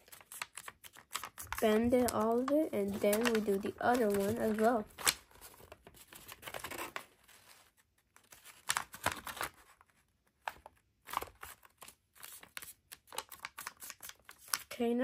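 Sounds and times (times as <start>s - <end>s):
paper crinkling as folded: 0.0s - 14.8s.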